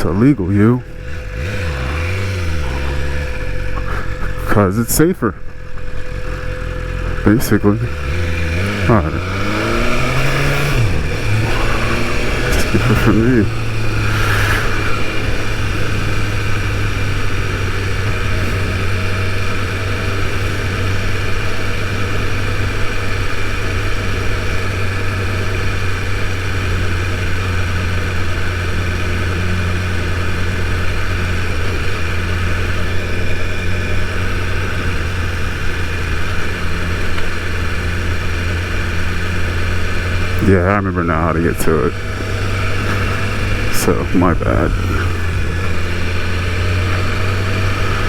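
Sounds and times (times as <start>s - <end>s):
motorcycle engine idling low: 0.0s - 48.0s.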